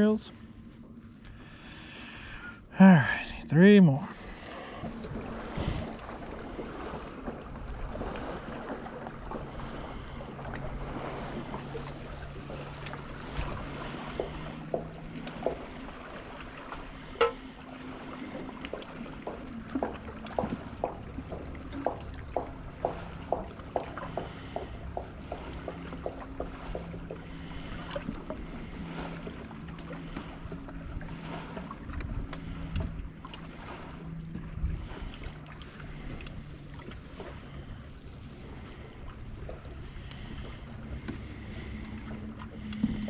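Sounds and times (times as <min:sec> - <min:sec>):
electric trolling motor humming: 0:03.4 - 0:43.0.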